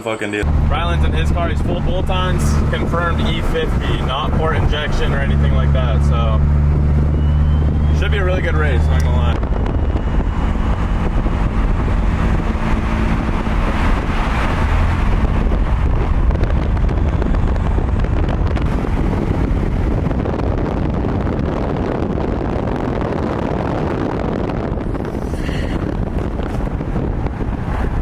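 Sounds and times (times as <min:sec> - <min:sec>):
car engine: 0:00.3 - 0:28.0
wind buffeting microphone: 0:00.4 - 0:28.0.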